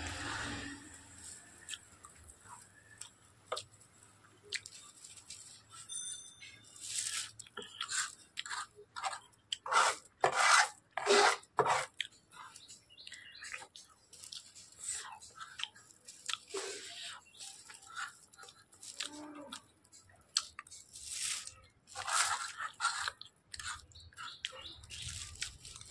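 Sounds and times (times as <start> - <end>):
wet chewing and slurping: 0.0 - 3.7, 6.8 - 25.9.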